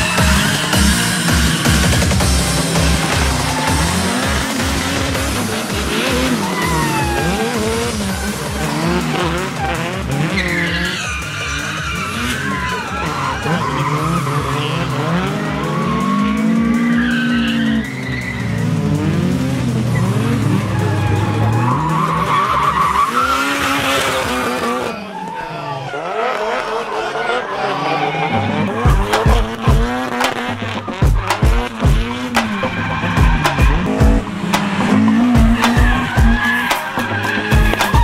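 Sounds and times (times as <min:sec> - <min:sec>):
tyres squealing: 0:00.0 - 0:18.8, 0:19.9 - 0:38.0
car engine revving: 0:00.0 - 0:38.0.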